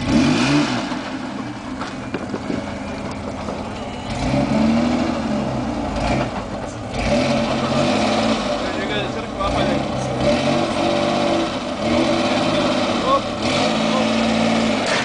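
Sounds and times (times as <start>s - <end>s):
truck engine working under load: 0.0s - 15.0s.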